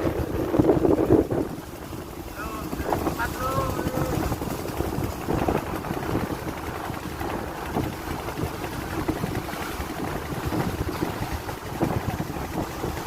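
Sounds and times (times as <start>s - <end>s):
ferry rumble: 0.0s - 13.0s
wind on microphone: 0.0s - 13.0s.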